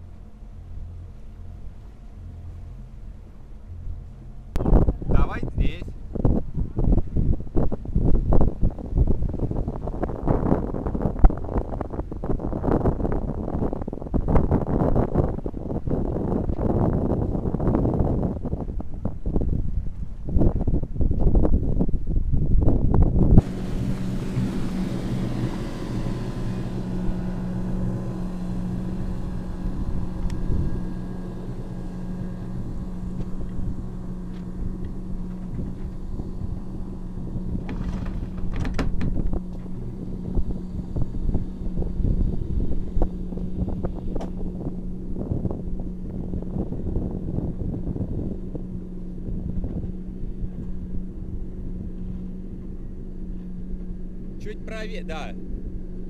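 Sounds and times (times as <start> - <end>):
boat engine humming: 0.0 - 56.0
wind rumble on microphone: 0.0 - 56.0.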